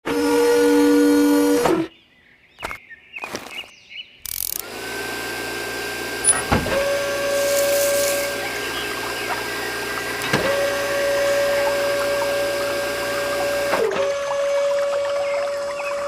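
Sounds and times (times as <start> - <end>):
water pump motor whine: 0.0 - 1.9, 4.6 - 16.0.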